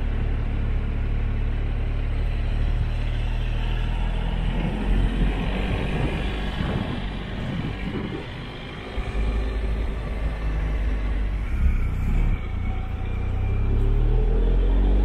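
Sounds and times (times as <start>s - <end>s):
strong low rumble: 0.0s - 15.0s.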